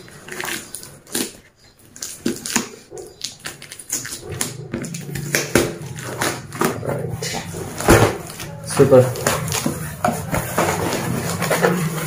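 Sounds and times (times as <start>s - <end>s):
cardboard and tape crinkling: 0.0s - 12.0s.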